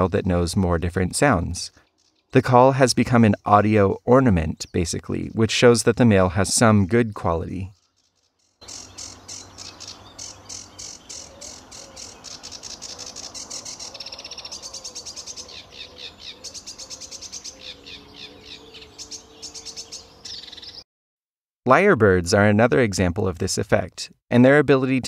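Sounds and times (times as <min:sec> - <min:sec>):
warbler singing: 0:00.0 - 0:20.8.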